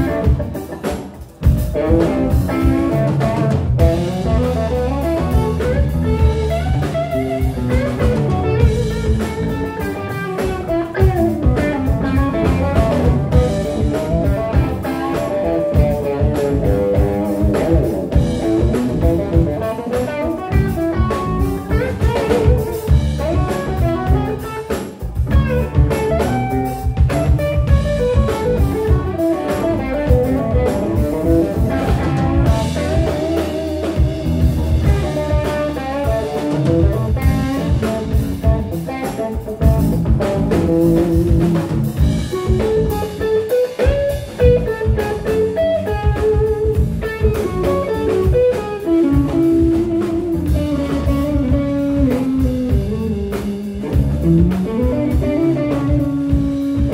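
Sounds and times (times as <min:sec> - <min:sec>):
drum kit: 0:00.0 - 0:56.9
electric bass: 0:00.0 - 0:56.9
electric guitar: 0:00.0 - 0:56.9.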